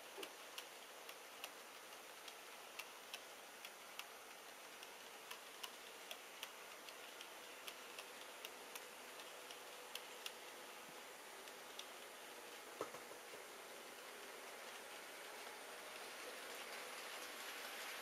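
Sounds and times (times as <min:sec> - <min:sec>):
model train wheels ticking: 0:00.0 - 0:12.8, 0:14.0 - 0:18.0
low steady hiss: 0:00.0 - 0:18.0.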